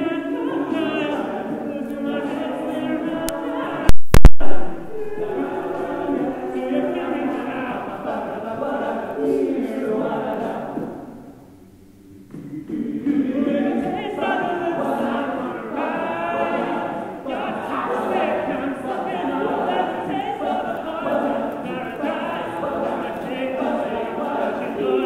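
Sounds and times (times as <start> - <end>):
male a cappella group singing: 0.0 - 3.9, 4.8 - 11.4, 12.0 - 25.0.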